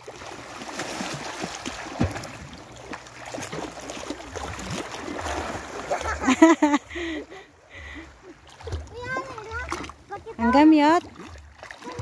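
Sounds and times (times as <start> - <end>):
children splashing in sea water: 0.0 - 12.0.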